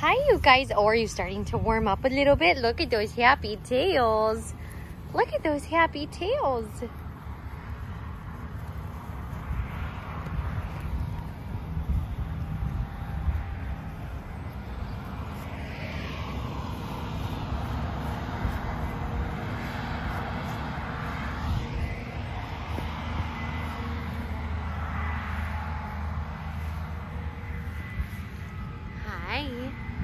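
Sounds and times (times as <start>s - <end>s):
farm machinery engine drone: 0.0s - 30.0s.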